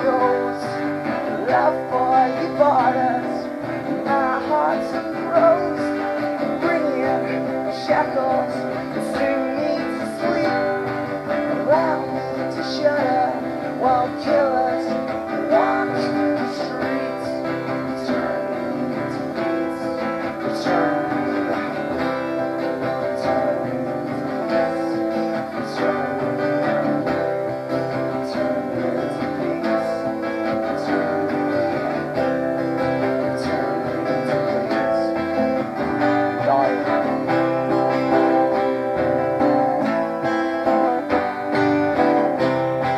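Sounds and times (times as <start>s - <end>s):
acoustic guitars playing: 0.0s - 42.9s.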